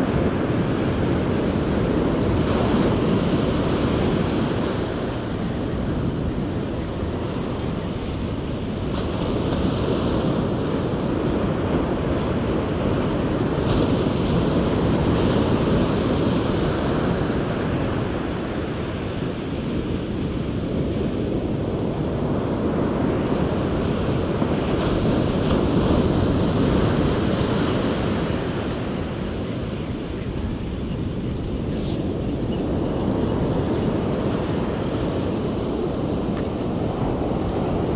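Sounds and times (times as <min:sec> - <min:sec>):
surf breaking on beach: 0:00.0 - 0:37.9
wind buffeting microphone: 0:00.0 - 0:37.9.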